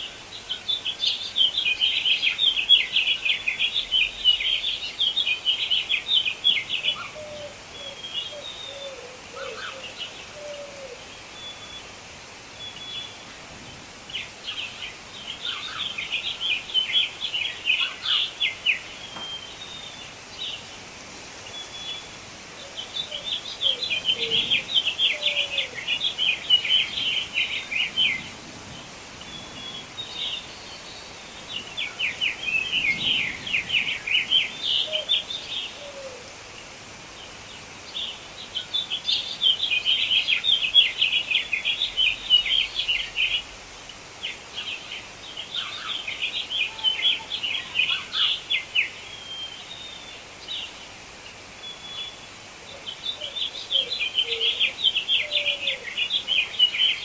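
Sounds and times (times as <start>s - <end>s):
bird chirping song: 0.0s - 36.3s, 37.1s - 43.5s, 44.2s - 57.0s
faint background hiss: 0.0s - 57.0s.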